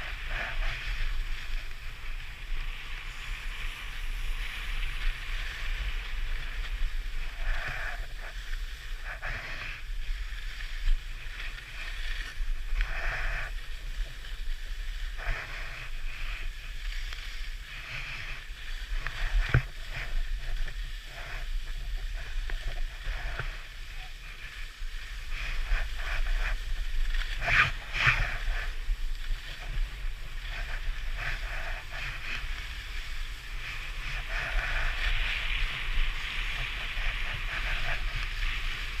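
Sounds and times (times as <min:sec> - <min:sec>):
skis scraping over snow: 0:00.0 - 0:39.0
wind buffeting microphone: 0:00.0 - 0:39.0.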